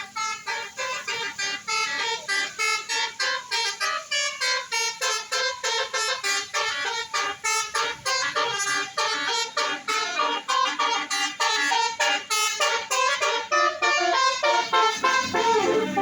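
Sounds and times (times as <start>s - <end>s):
bus musical horn playing tune: 0.0s - 16.0s.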